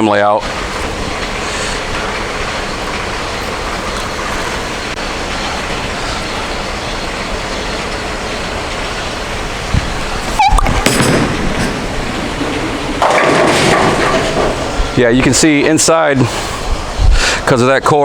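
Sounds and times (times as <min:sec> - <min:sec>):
bowling balls rolling: 0:00.4 - 0:17.6.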